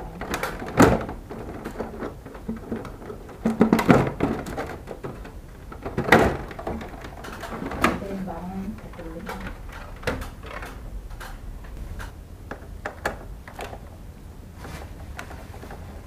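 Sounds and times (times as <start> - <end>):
hard objects knocking: 0.0 - 13.7.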